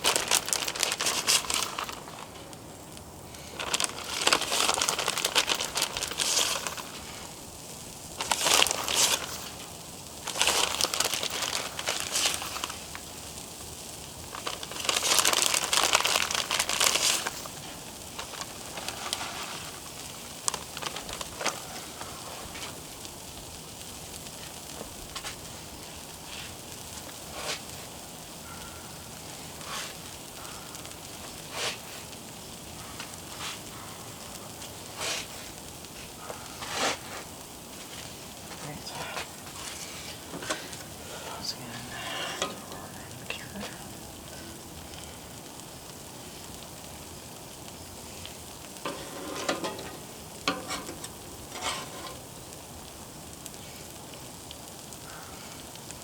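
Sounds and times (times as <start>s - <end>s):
food crackling on griddle: 0.0s - 56.0s
griddle hiss with ticks: 0.0s - 56.0s.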